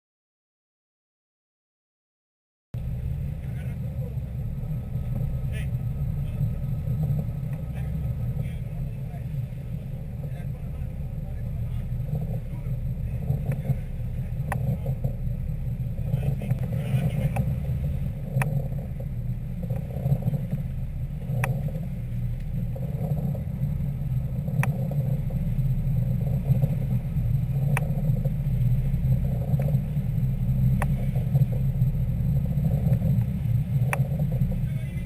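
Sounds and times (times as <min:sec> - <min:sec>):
boat engine rumble: 0:02.8 - 0:35.0.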